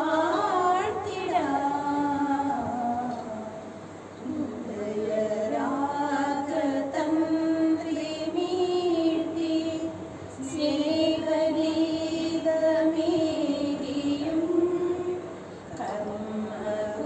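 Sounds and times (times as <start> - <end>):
woman singing slow prayer song: 0.0 - 17.0.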